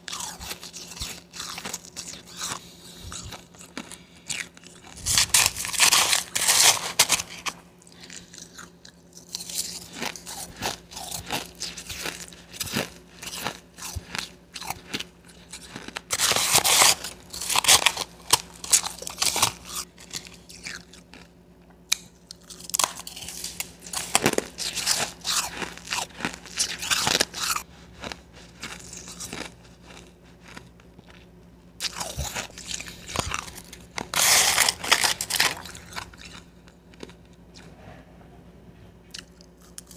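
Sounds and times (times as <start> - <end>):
ice crunched between teeth: 0.0 - 21.3, 21.9 - 37.7.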